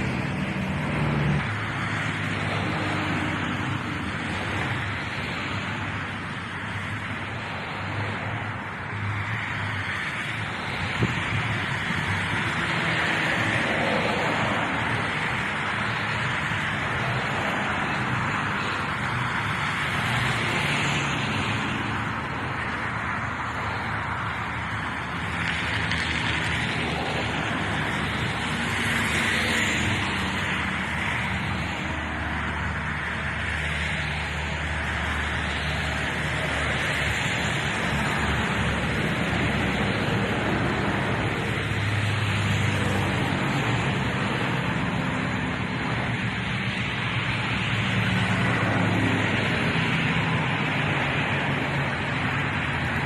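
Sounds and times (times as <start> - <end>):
engine roar: 0.0 - 53.0.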